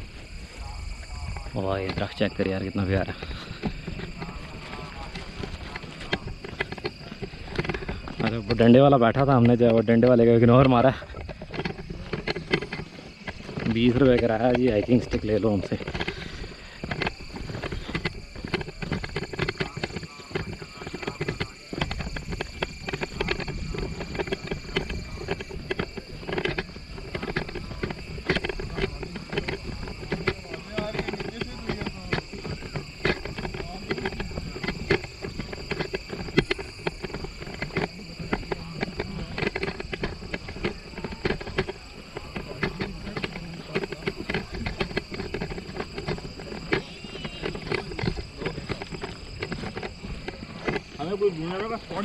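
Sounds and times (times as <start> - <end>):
footsteps on dirt trail: 0.0 - 52.0.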